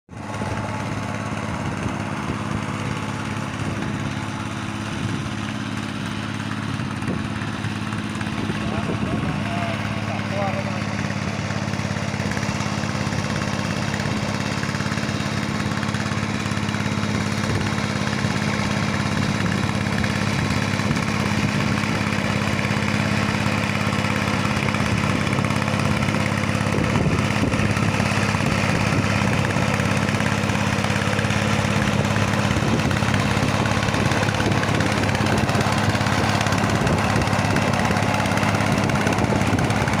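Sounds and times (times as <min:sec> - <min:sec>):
hand tractor engine running: 0:00.1 - 0:40.0.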